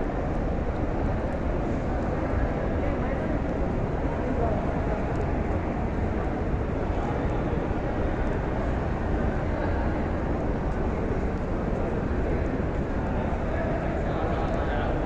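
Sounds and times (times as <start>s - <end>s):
indistinct crowd noise: 0.0s - 15.0s.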